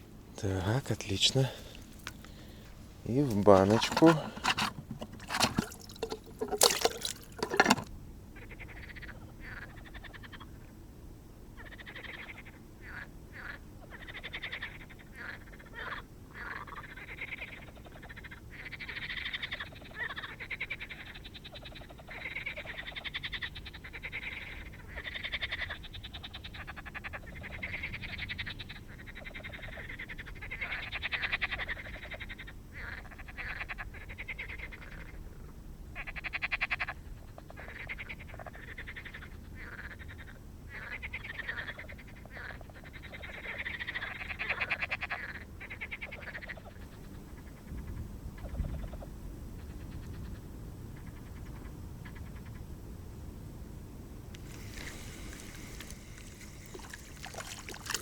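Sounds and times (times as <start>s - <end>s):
frogs croaking in trills: 8.4s - 10.8s, 11.5s - 52.9s, 54.4s - 58.0s.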